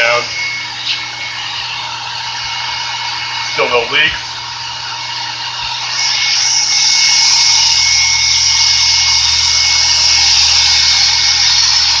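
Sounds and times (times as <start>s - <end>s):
cooling fan whirring: 0.0s - 12.0s.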